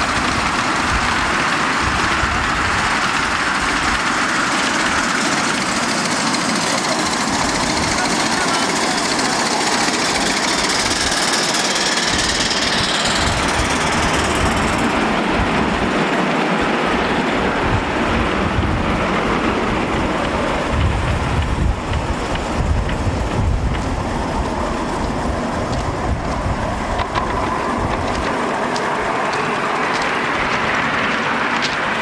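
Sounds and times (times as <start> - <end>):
miniature steam locomotive rumble: 0.0 - 32.0
wheels clicking on rails: 0.0 - 32.0.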